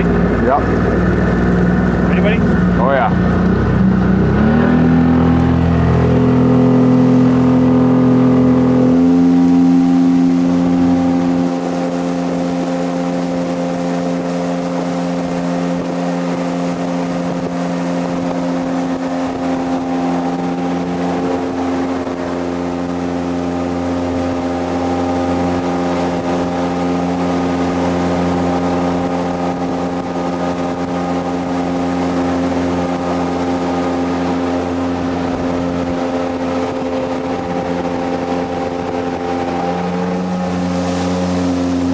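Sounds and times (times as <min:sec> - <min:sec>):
jet boat engine drone: 0:00.0 - 0:41.9.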